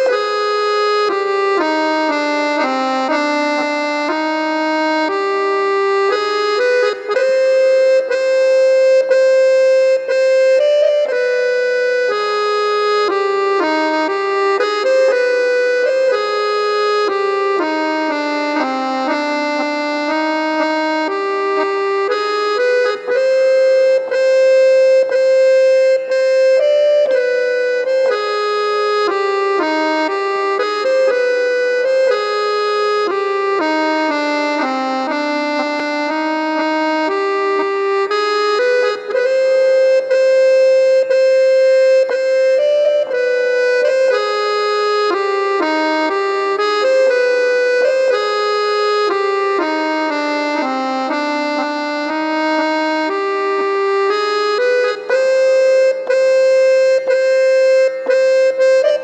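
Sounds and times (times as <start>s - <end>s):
harmonium melody: 0.0s - 59.0s.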